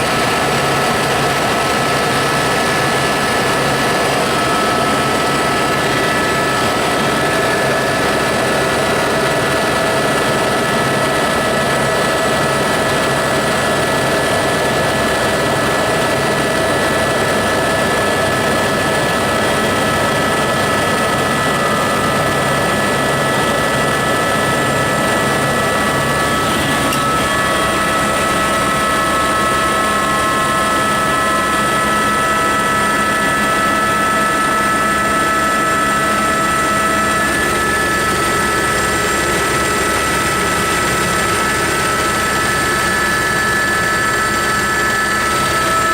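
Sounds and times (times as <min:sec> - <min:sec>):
helicopter cabin drone: 0:00.0 - 0:45.9
turbine whine: 0:00.0 - 0:45.9.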